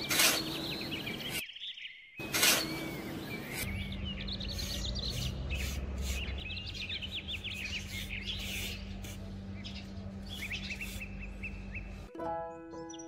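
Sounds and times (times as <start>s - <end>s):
trowel scraping damp sand: 0.0s - 1.4s, 2.2s - 3.7s, 4.4s - 12.1s
small birds chirping: 0.0s - 12.2s.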